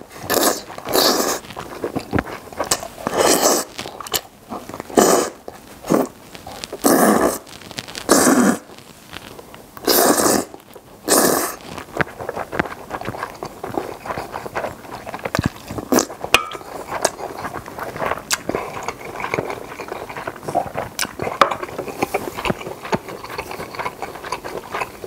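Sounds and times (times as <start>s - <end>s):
loud noodle slurping: 0.0s - 8.7s, 9.8s - 25.0s
wet chewing: 0.0s - 25.0s.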